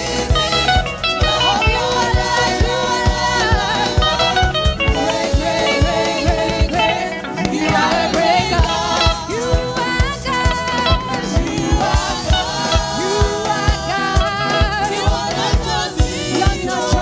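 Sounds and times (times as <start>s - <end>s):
gospel song singing: 0.0s - 17.0s
steady drum beat: 0.0s - 17.0s.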